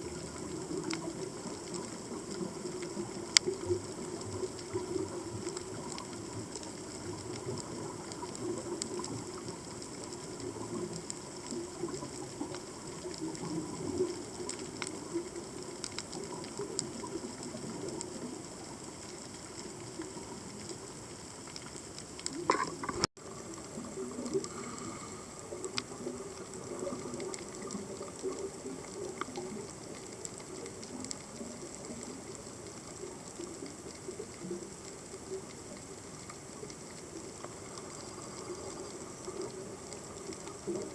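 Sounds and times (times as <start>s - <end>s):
sharp clicks and crackles: 0.0s - 40.9s
underwater rush of water: 0.0s - 40.9s.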